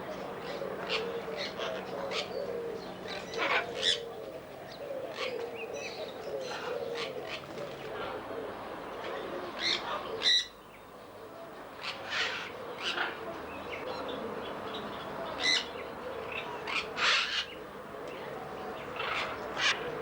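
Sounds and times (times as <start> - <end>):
caged birds calling: 0.0 - 20.0.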